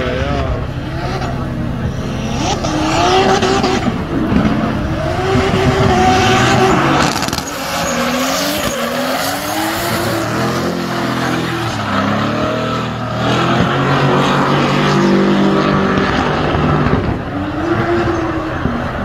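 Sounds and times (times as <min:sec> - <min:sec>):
car engine revving high: 0:00.0 - 0:19.0.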